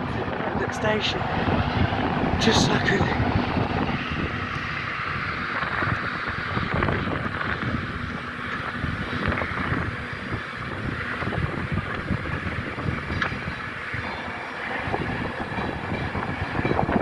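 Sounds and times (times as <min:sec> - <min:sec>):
train rumbling: 0:00.0 - 0:17.0
wind buffeting microphone: 0:00.0 - 0:17.0.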